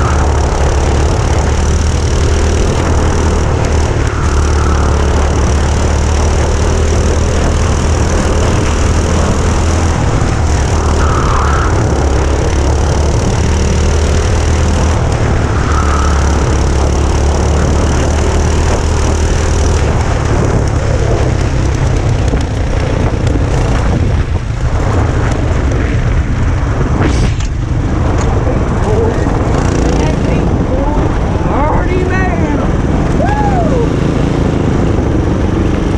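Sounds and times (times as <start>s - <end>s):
go-kart engines droning: 0.0s - 35.9s.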